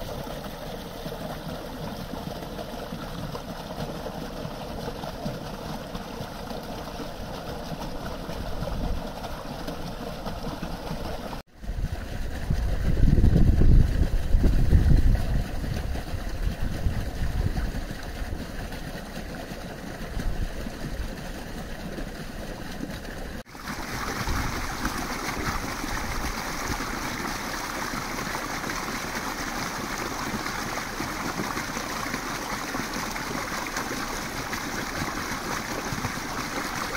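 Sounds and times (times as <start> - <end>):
brook babbling: 0.0 - 36.9.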